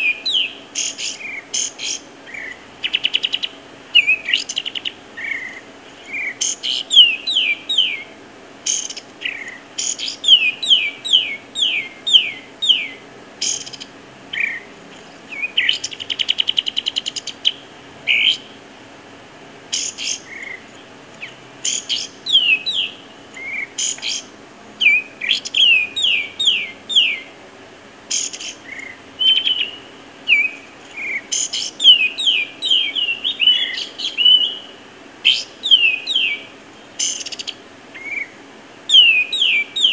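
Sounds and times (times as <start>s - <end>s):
bird chirps: 0.0s - 18.6s, 19.7s - 27.4s, 28.1s - 39.9s
fast bird trill: 0.0s - 18.6s, 19.7s - 27.3s, 28.1s - 39.9s
birdsong: 0.0s - 39.9s.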